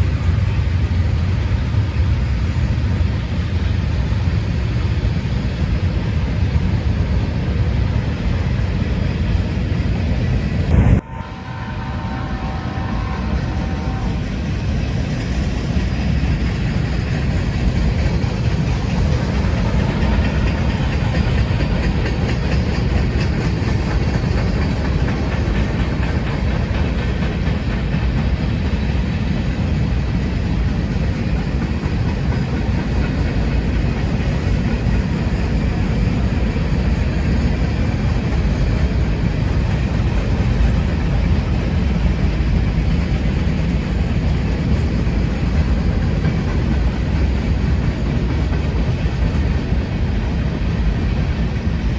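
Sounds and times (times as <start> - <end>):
wheels clickety-clack on rails: 0.0 - 11.0, 11.9 - 51.9
train rumbling past: 0.0 - 51.9.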